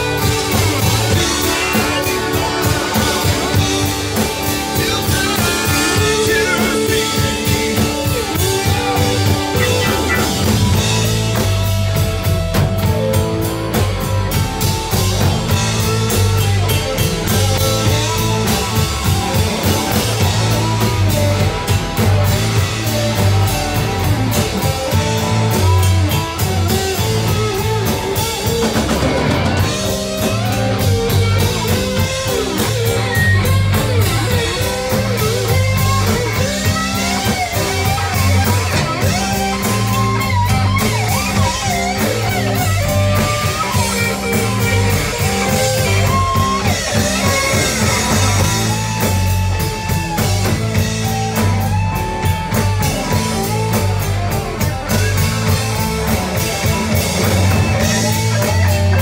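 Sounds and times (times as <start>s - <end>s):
electric lead guitar: 0.0s - 59.0s
rock band playing: 0.0s - 59.0s.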